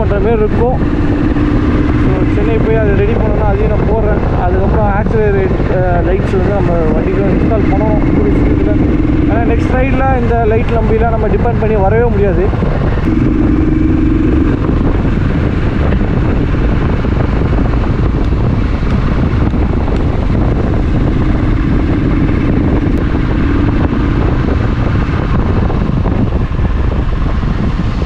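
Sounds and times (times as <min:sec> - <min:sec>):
motorcycle engine running: 0:00.0 - 0:28.0
wind rumble on microphone: 0:00.0 - 0:28.0.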